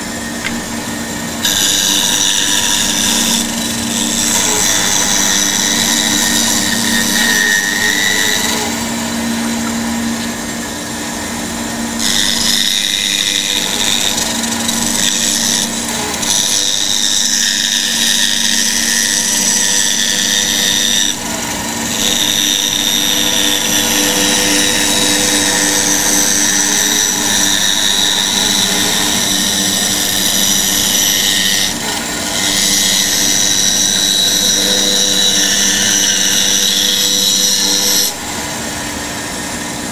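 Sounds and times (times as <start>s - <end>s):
saw blade cutting wood: 0.0s - 10.7s, 12.0s - 39.0s
bandsaw motor hum: 0.0s - 39.9s.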